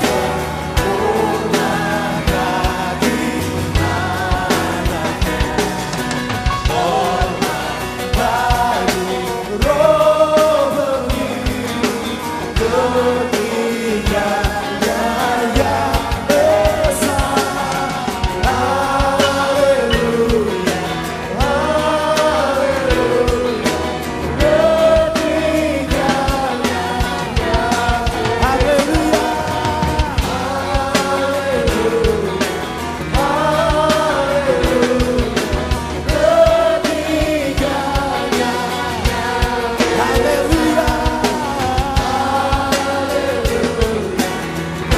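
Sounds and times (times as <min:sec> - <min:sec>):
live band playing: 0:00.0 - 0:44.9.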